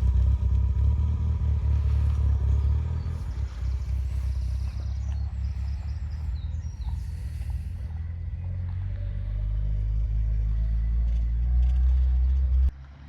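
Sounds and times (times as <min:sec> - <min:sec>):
car driving slowly past: 0:00.0 - 0:13.0.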